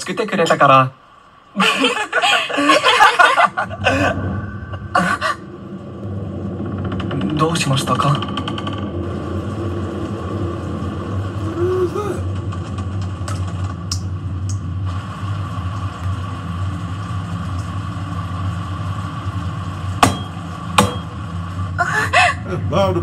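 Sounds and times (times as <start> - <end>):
low droning hum: 0.0 - 23.0.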